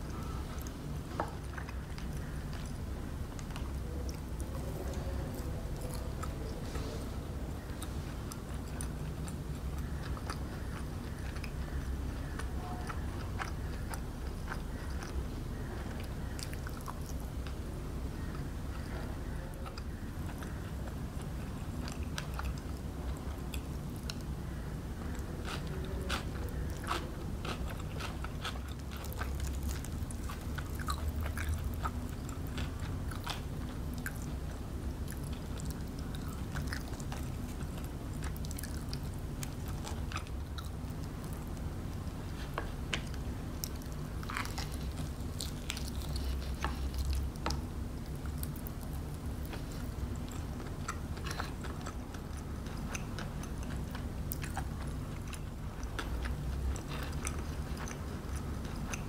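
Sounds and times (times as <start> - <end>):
chewing crispy chicken: 0.0 - 59.0
steady low hum: 0.0 - 59.0.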